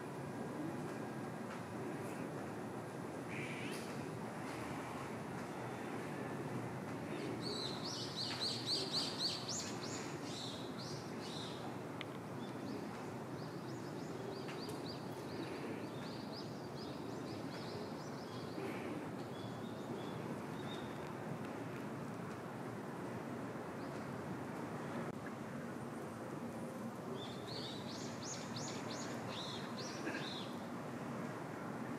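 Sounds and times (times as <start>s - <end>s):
outdoor background hum: 0.0s - 31.9s.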